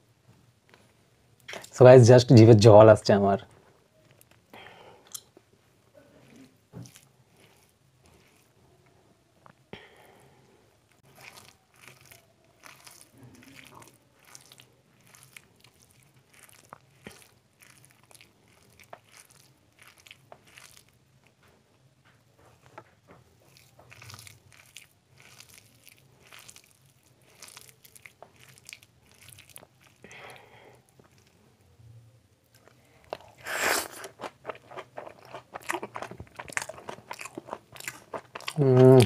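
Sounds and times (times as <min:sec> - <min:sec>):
squelching of wet food kneaded: 0:06.0 - 0:08.9, 0:09.5 - 0:31.7, 0:32.4 - 0:39.0.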